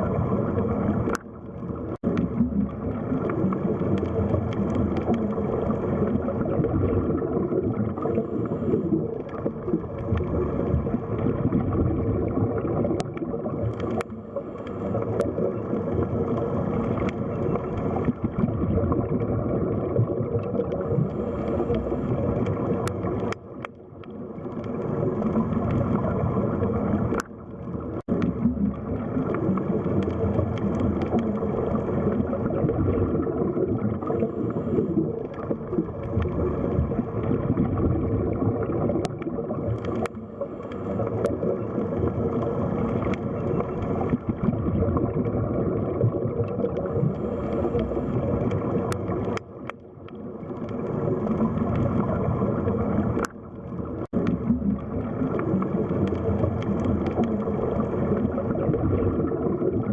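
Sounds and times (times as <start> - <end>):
muffled underwater water noise: 0.0 - 59.9
faint clicks: 1.0 - 6.3, 7.9 - 11.5, 12.8 - 18.5, 20.4 - 32.4, 34.0 - 37.6, 38.7 - 44.5, 46.4 - 58.5.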